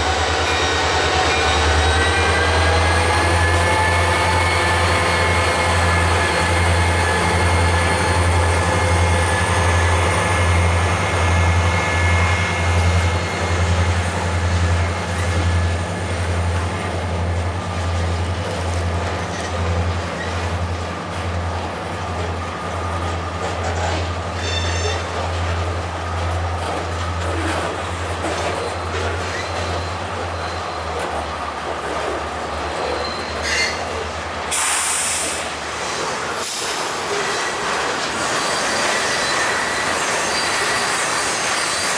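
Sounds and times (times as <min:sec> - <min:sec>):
freight train wheels rumbling on rail: 0:00.0 - 0:41.9
high ringing whine from train: 0:00.0 - 0:41.9.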